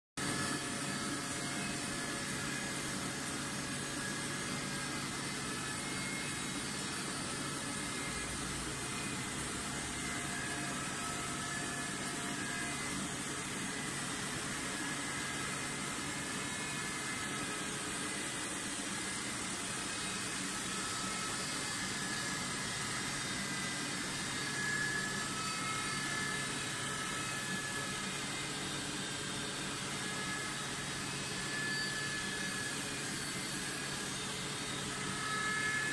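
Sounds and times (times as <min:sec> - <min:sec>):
machinery hiss and whine: 0:00.2 - 0:35.9.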